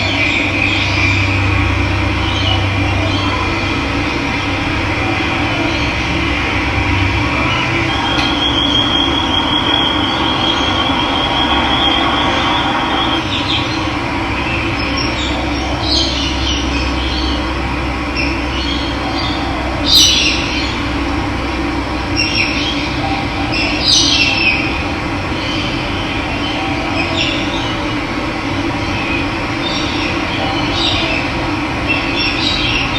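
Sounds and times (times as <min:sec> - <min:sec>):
birds calling: 0:00.0 - 0:21.1, 0:22.0 - 0:28.0, 0:28.7 - 0:32.9.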